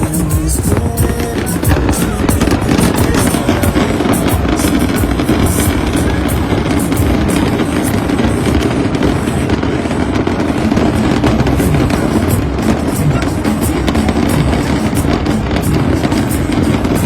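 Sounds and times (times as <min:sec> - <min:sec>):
fireworks bursting and crackling: 0:00.0 - 0:17.0
music playing: 0:00.0 - 0:17.0.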